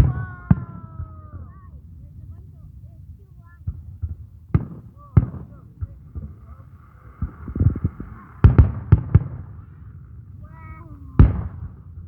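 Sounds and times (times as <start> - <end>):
faint crackling hiss: 0.0 - 12.0
fireworks bangs and booms: 0.0 - 12.0.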